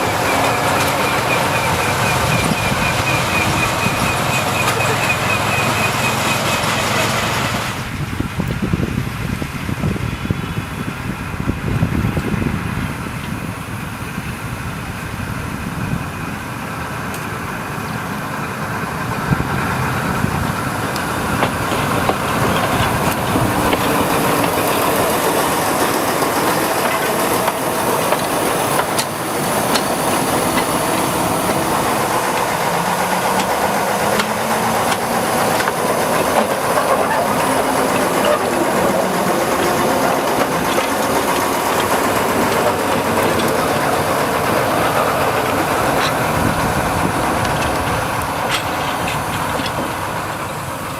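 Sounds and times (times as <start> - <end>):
diesel locomotive engine running: 0.0 - 50.9.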